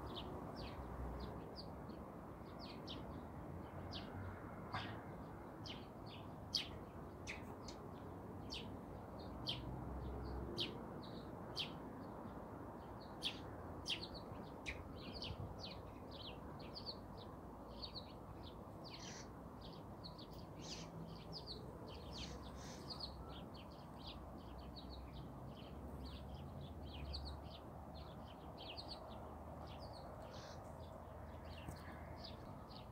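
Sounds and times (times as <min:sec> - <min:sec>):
small songbirds chirping: 0:00.0 - 0:32.9.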